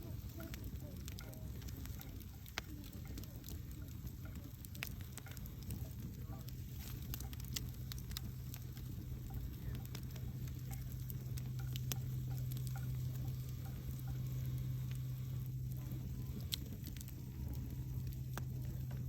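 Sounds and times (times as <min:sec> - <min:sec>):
campfire crackling and popping: 0:00.0 - 0:19.0
steady low hum: 0:00.0 - 0:19.0.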